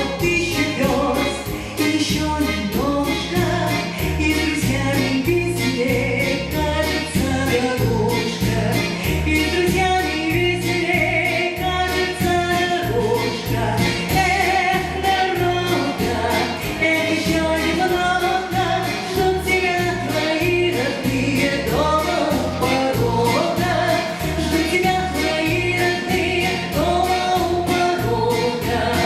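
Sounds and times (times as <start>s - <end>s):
backing track with bass: 0.0s - 29.0s
woman singing: 0.0s - 29.0s.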